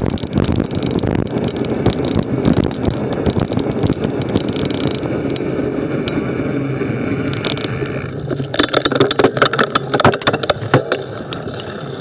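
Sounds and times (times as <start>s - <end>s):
bike clicks and rattles: 0.0s - 12.0s
bike tyres rumbling on dirt: 0.0s - 12.0s
wind on camera: 0.0s - 12.0s.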